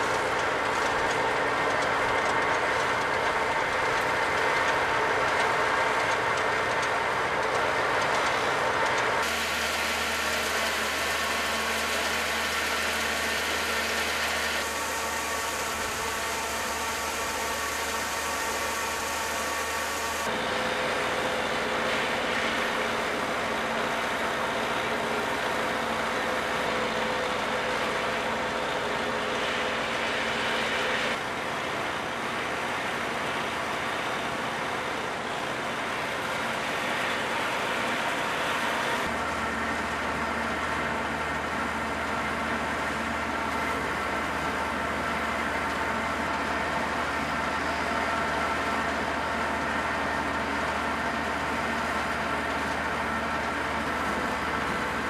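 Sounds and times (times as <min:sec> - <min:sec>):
threshing machine running: 0:00.0 - 0:55.0.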